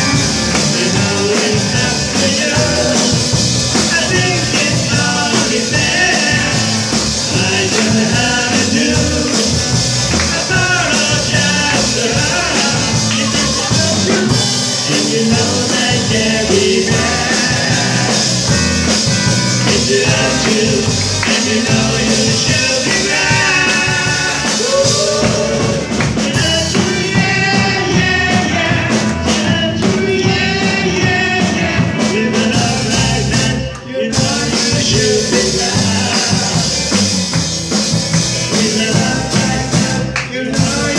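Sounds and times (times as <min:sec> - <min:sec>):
lead vocal singing: 0:00.0 - 0:40.9
rock band playing: 0:00.0 - 0:40.9.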